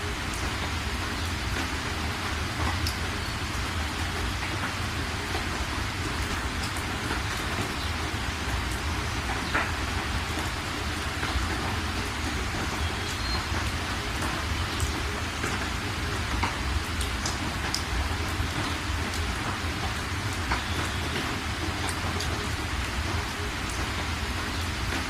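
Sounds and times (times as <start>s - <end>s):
rain falling: 0.0s - 25.0s
water drips: 0.0s - 25.0s.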